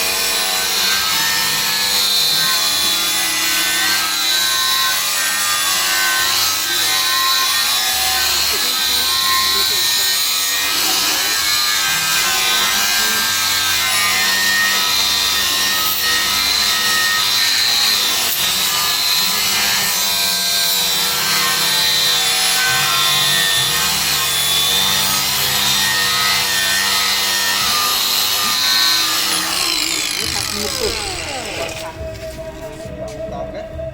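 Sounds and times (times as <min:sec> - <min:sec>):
angle grinder grinding: 0:00.0 - 0:33.3.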